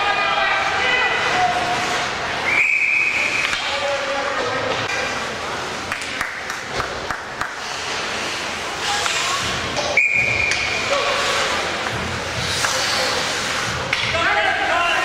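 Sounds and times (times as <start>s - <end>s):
echoing hall noise: 0.0s - 15.0s.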